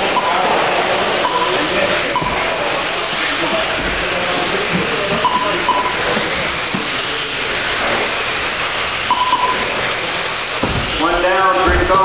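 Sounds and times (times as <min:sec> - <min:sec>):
high motor whine: 0:00.0 - 0:12.0
rc car motors and tyres hissing: 0:00.0 - 0:12.0.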